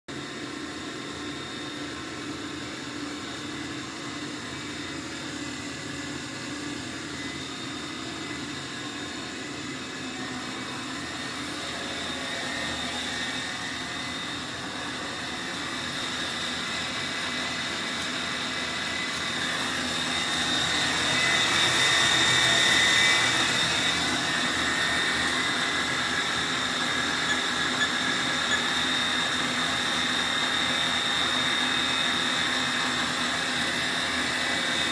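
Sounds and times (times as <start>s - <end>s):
machinery humming and whining: 0.2s - 34.9s.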